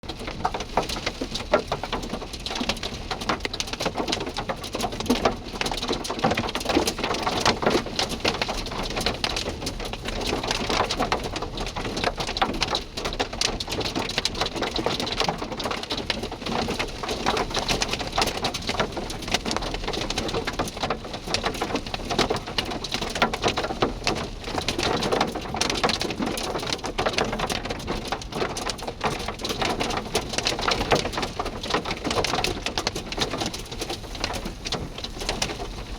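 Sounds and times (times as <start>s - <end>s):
hail pelting hard surfaces: 0.1s - 35.9s.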